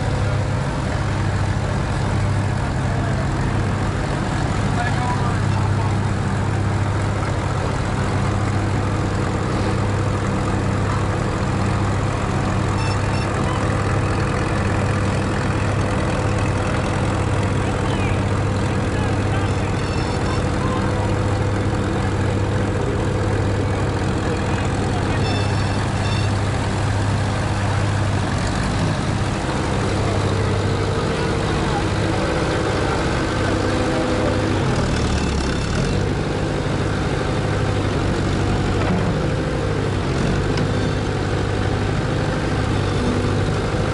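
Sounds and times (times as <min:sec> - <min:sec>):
heavy engine idling: 0:00.0 - 0:43.9.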